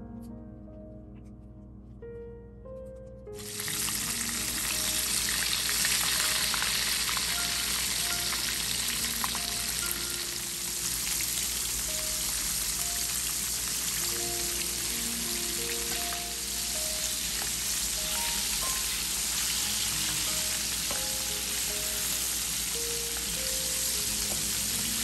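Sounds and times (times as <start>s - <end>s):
soft background music: 0.0s - 25.0s
chicken deep-frying in oil: 3.4s - 25.0s.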